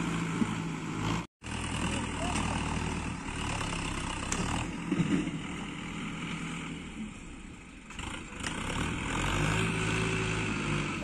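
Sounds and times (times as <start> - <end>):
diesel tractor engine labouring: 0.0 - 11.0.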